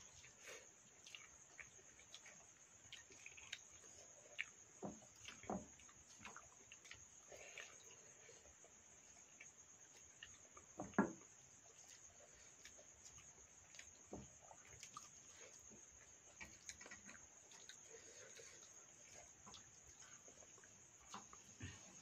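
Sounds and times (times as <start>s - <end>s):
crickets chirring: 0.0s - 22.0s
people eating with hands: 0.0s - 22.0s.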